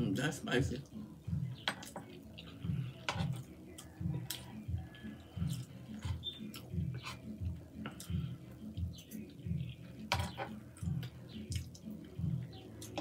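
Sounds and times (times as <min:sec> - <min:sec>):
soft chewing: 0:00.8 - 0:13.0.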